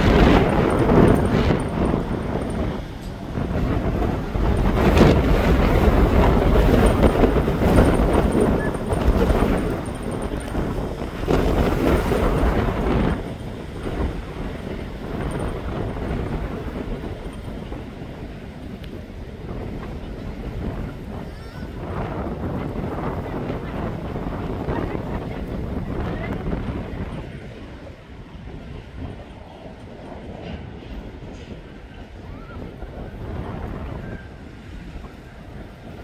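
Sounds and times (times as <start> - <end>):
freight train rolling past: 0.0 - 36.0
wind buffeting microphone: 0.0 - 36.0.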